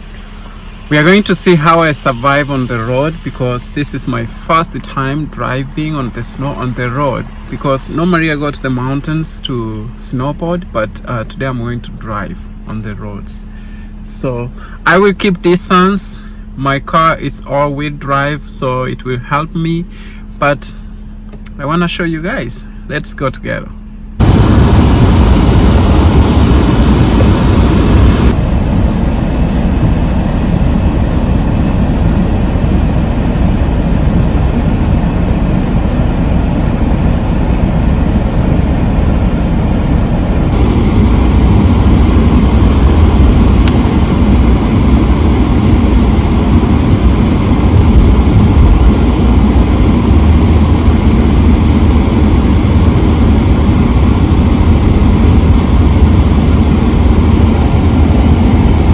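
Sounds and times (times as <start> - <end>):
car driving road and engine rumble: 0.0 - 58.9.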